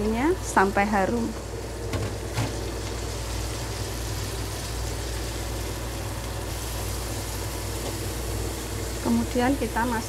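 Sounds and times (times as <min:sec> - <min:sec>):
frying in hot oil: 0:00.0 - 0:10.0.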